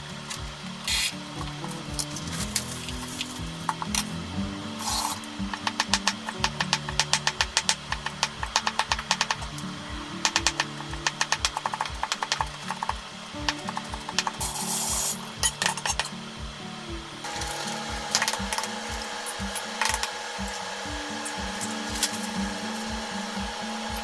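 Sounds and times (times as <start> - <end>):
background music with steady beat: 0.0 - 24.0.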